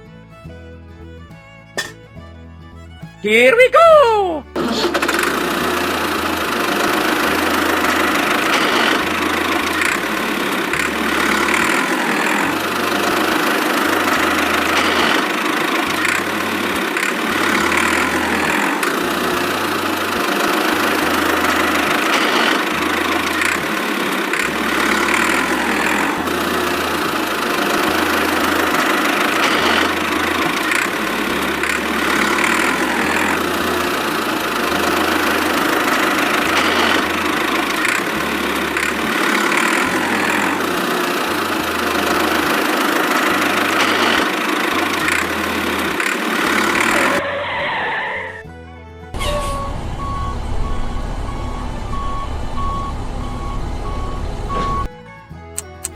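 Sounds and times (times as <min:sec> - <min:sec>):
small tractor engine running: 0:00.0 - 0:55.9.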